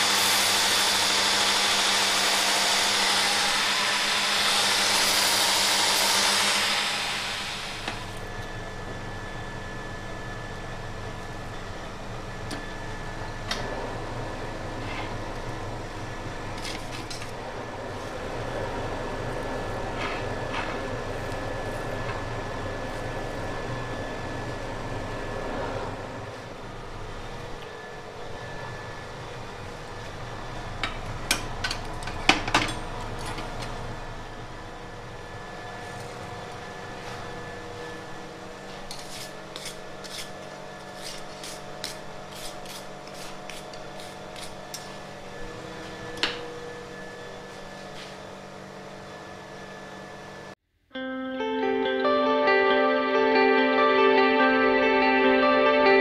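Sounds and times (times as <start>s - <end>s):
forge blower humming: 0.0s - 50.6s.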